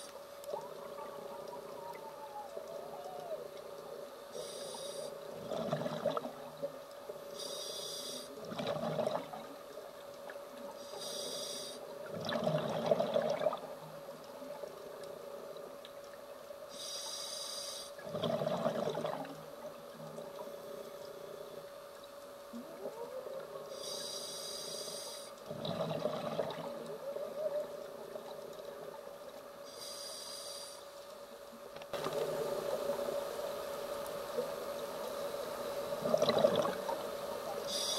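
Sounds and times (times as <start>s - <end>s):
steady hum: 0.0s - 37.9s.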